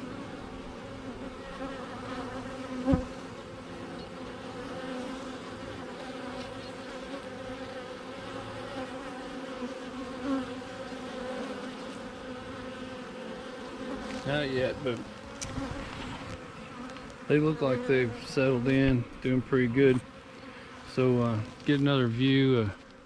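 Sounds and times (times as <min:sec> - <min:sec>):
bees buzzing: 0:00.0 - 0:23.0
close bee buzz: 0:00.0 - 0:23.0.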